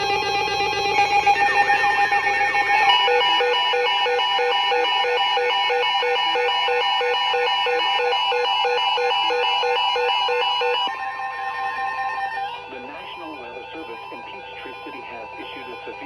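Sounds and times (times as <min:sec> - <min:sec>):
steady electronic tones: 0:00.1 - 0:16.0
rapid electronic alarm beeping: 0:01.8 - 0:16.0.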